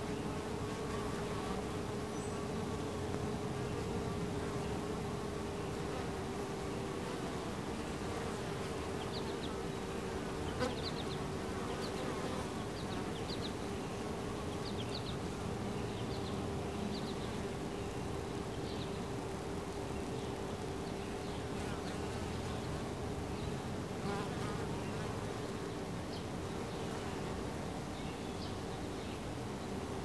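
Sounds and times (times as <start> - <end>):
honey bees buzzing: 0.0 - 28.0.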